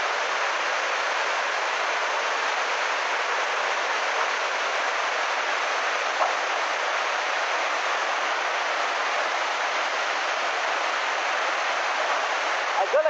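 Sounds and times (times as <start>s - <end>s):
muddy water rushing: 0.0s - 13.0s.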